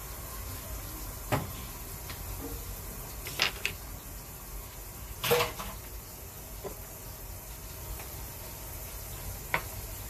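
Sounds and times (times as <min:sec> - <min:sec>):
low hiss of heating pot: 0:00.0 - 0:10.0.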